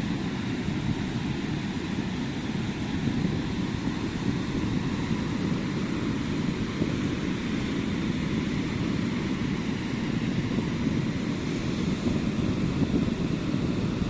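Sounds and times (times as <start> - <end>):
ocean waves breaking on beach: 0.0 - 14.0.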